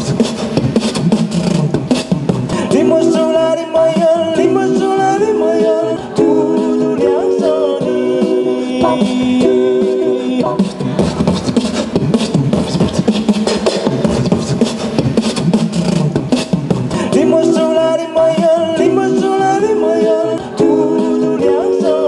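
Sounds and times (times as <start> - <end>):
beatboxing: 0.0 - 22.0
person singing into microphone: 0.0 - 22.0.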